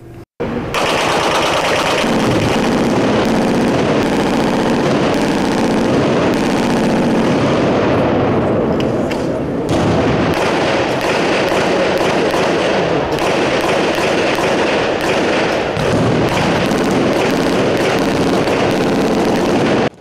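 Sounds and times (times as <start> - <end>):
rapid gunfire: 0.7 - 8.0, 9.7 - 20.0.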